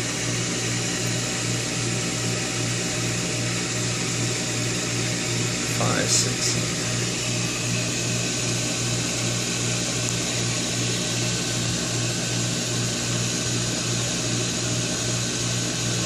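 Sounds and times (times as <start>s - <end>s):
pump motor humming: 0.0s - 16.0s.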